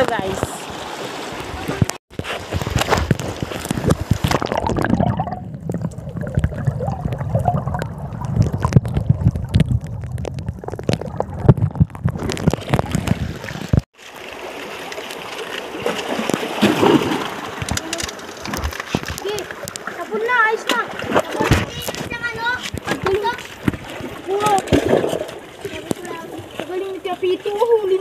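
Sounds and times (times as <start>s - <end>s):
water sloshing and gurgling: 0.0s - 28.0s
water washing over rocks: 0.0s - 28.0s
small knocks underwater: 1.4s - 13.9s, 15.8s - 20.0s, 20.6s - 26.8s.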